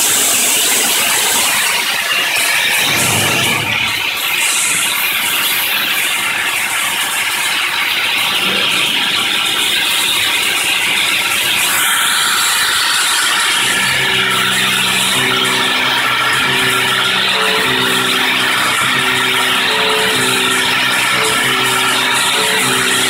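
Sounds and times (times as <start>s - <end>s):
milling machine cutting steel: 0.0s - 23.0s.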